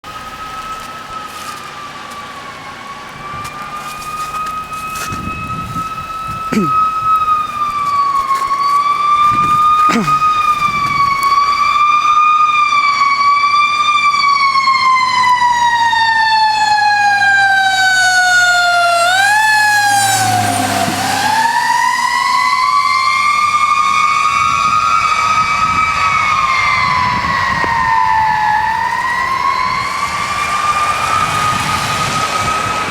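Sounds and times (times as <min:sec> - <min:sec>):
fire engine siren wailing: 0:00.0 - 0:32.9.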